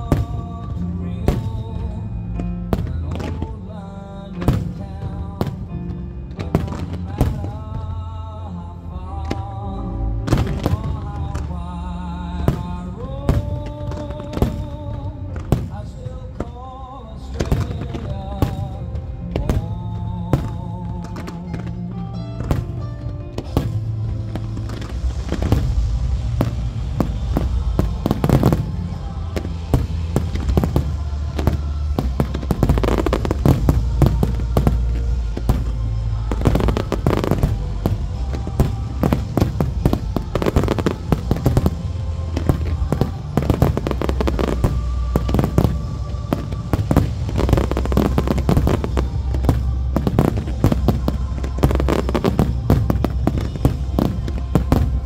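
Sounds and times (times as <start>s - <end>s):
fireworks bangs and crackles: 0.0s - 8.3s, 9.0s - 55.0s
loud music with heavy bass: 0.0s - 55.0s.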